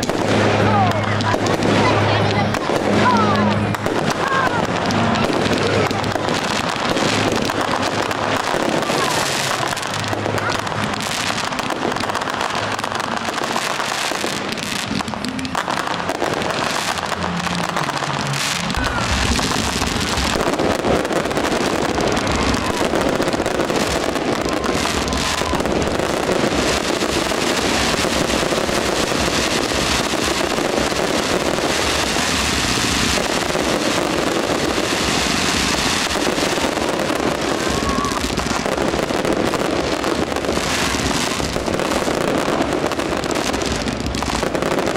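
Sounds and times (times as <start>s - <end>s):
fireworks crackling and rumbling: 0.0s - 44.9s.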